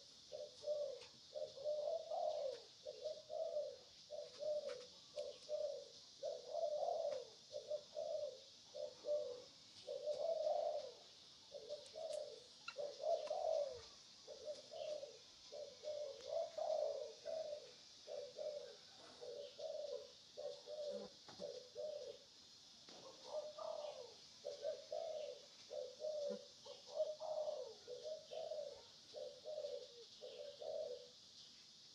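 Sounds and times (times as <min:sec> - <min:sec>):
pigeons cooing: 0:00.0 - 0:31.3
steady high hiss: 0:00.0 - 0:31.9.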